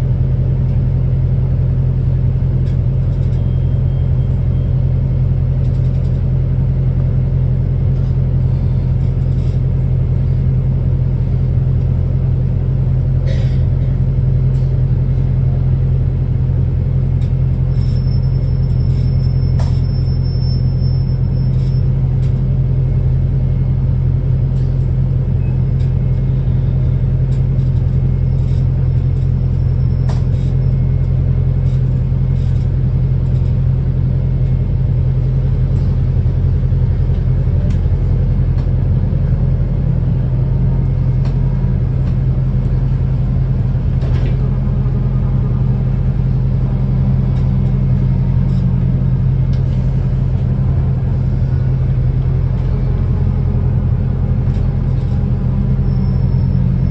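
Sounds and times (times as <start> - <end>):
bus diesel engine droning: 0.0 - 56.9.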